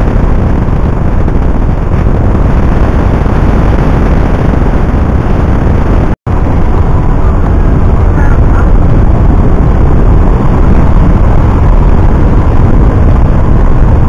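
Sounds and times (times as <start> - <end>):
loud low rumbling noise: 0.0 - 14.0.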